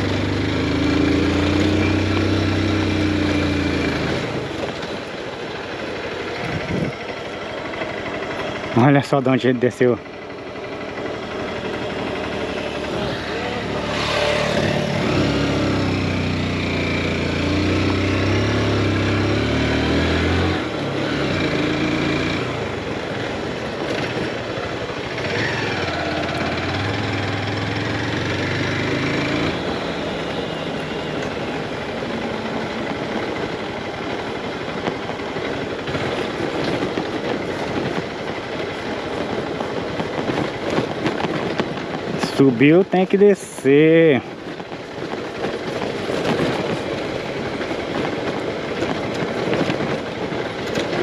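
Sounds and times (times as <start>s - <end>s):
rushing wind: 0.0s - 8.8s, 10.0s - 51.0s
motorcycle engine revving: 0.0s - 51.0s
road noise: 0.0s - 51.0s.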